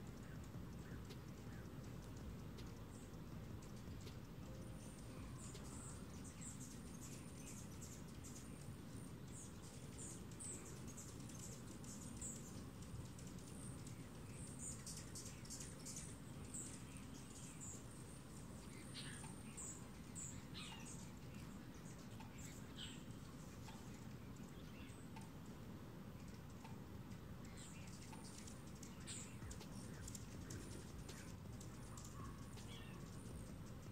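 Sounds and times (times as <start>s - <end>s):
hummingbirds chipping: 0.0s - 33.9s
low steady rumble: 0.0s - 33.9s.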